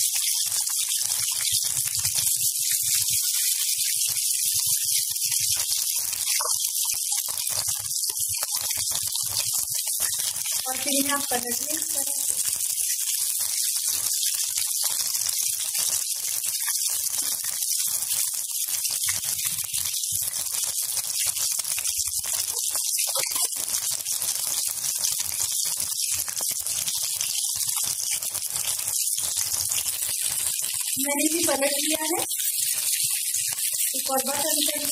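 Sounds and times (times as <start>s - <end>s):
deep-frying sizzle in hot oil: 0.0s - 34.9s.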